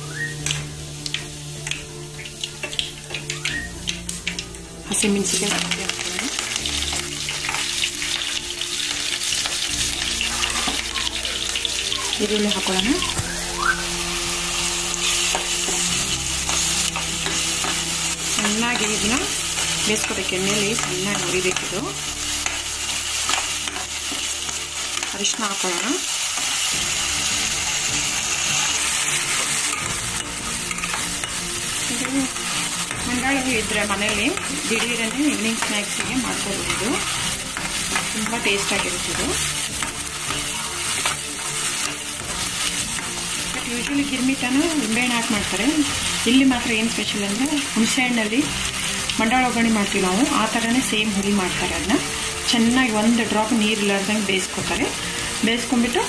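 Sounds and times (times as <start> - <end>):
oil sizzling loudly: 0.0 - 56.0
seeds spluttering in hot oil: 0.2 - 56.0.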